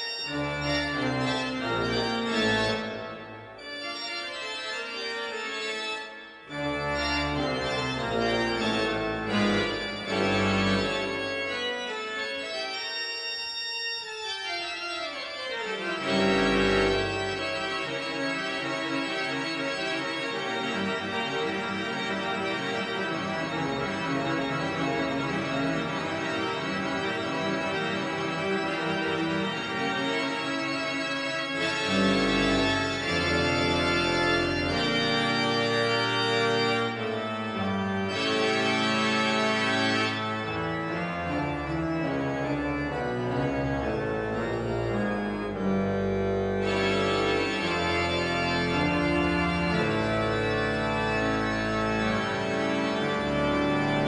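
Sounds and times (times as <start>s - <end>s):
church pipe organ chords: 0.0s - 54.0s
deep organ pedal bass notes: 0.1s - 54.0s.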